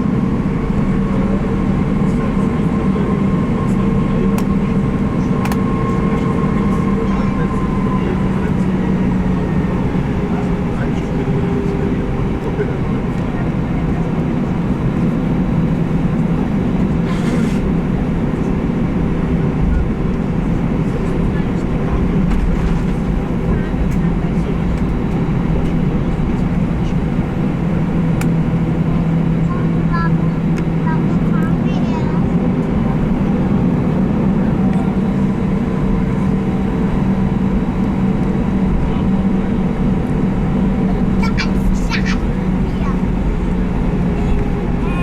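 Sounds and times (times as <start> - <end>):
airliner cabin engine drone: 0.0 - 45.0.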